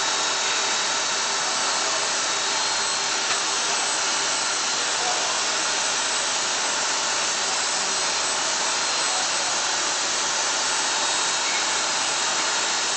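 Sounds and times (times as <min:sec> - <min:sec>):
diamond bit cutting stone: 0:00.0 - 0:12.9.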